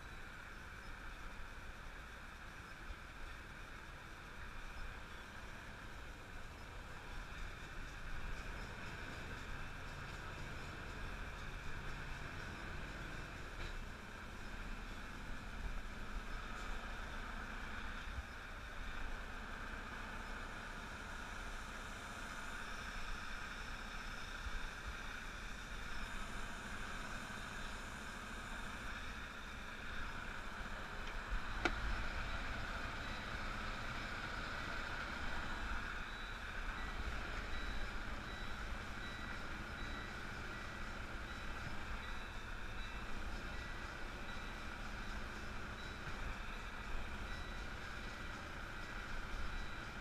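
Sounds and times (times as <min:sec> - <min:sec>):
diesel truck engine running: 0:03.1 - 0:50.0.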